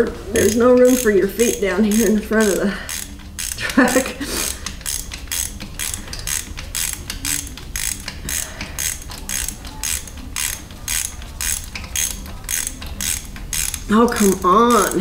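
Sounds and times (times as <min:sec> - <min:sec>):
ratchet pawl clicks: 0:00.0 - 0:15.0.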